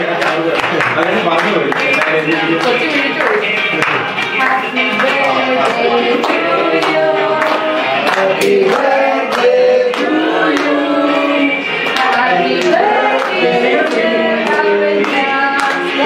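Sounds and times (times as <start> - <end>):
hands clapping to a beat: 0.0 - 16.0
group of voices singing: 3.0 - 16.0.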